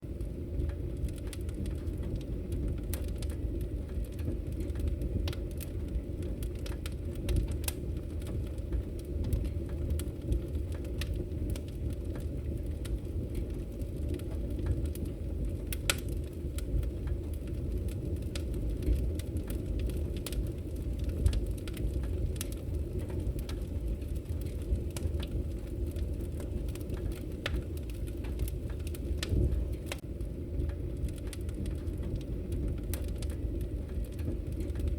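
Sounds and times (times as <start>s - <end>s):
fire rumble: 0.0s - 34.9s
wood fire popping and crackling: 0.0s - 34.9s.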